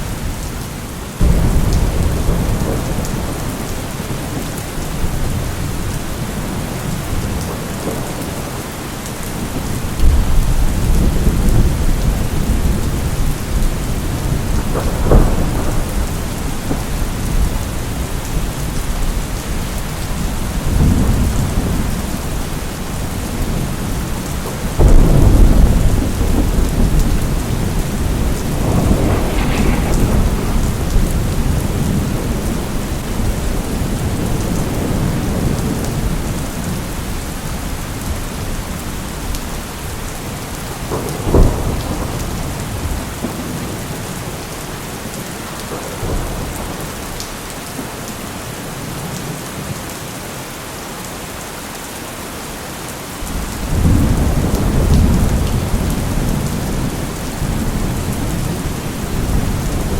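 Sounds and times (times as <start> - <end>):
steady rain: 0.0 - 59.9
thunder rolls and claps: 1.2 - 39.5, 40.2 - 48.0, 53.2 - 59.9.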